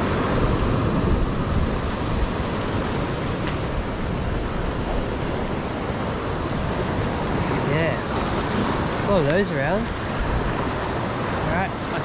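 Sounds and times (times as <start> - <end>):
ocean surf over rocks: 0.0 - 12.0.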